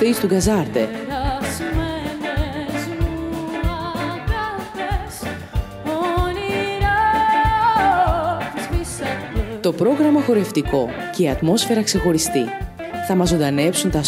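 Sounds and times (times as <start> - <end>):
woman singing with vibrato: 0.0 - 12.6
guitar: 0.0 - 14.0
upright bass: 0.0 - 14.0.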